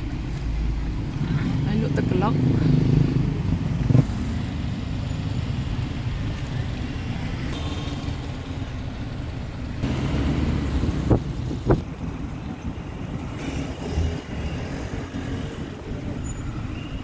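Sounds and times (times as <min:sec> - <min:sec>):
street traffic: 0:00.0 - 0:17.0
vehicle engine and road rumble: 0:00.0 - 0:17.0.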